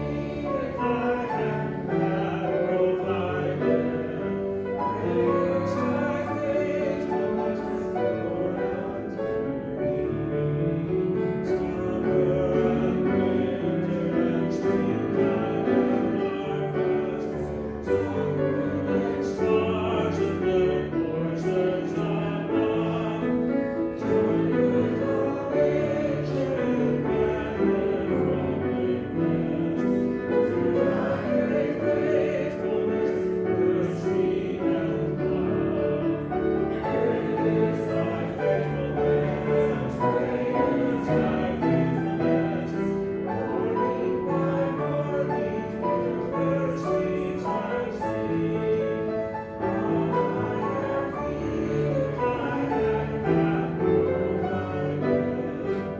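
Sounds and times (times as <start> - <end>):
choir singing slow chords: 0.0 - 55.9.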